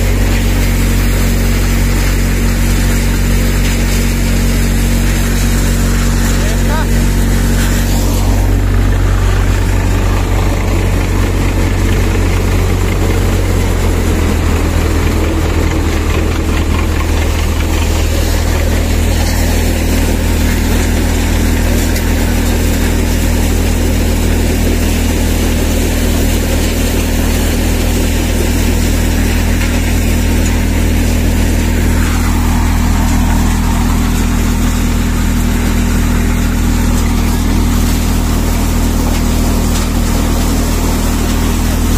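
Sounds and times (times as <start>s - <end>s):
tractor driving maize thresher: 0.0s - 41.9s.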